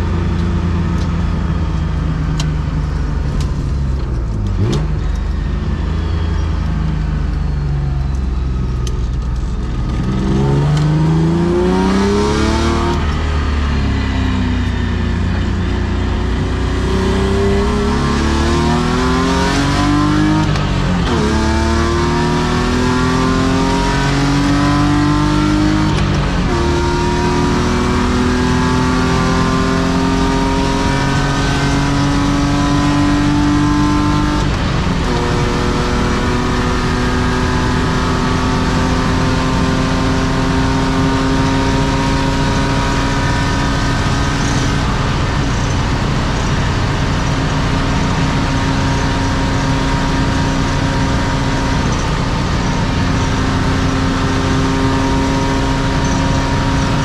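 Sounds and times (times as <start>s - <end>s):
car engine accelerating: 0.0s - 57.0s
road noise: 0.0s - 57.0s.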